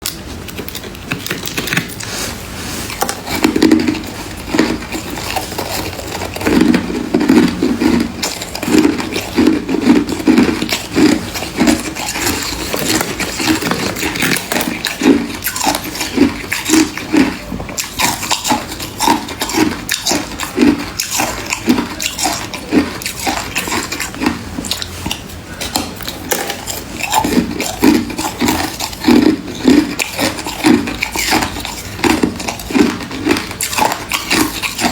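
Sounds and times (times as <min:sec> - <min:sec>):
chewing crunchy frost: 0:00.0 - 0:34.9.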